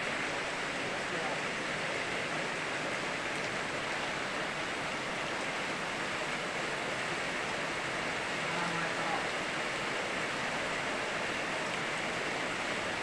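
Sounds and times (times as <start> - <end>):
river rushing: 0.0 - 13.0
steady rain: 0.0 - 13.0.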